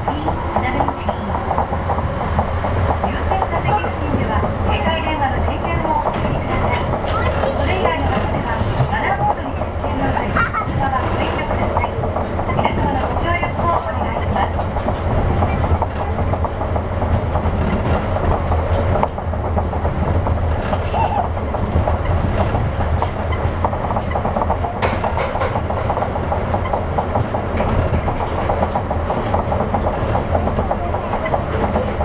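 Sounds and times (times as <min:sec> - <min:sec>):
train rolling noise: 0:00.0 - 0:32.0.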